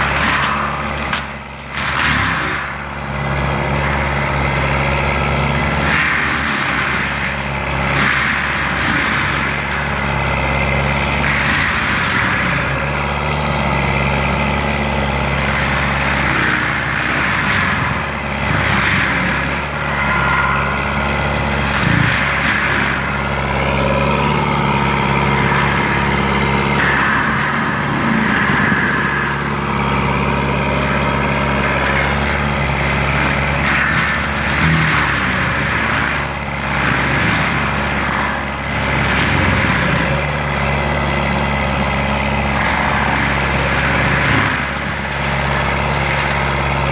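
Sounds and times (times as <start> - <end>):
diesel engine running: 0.0 - 46.9
mulcher grinding brush: 0.0 - 46.9.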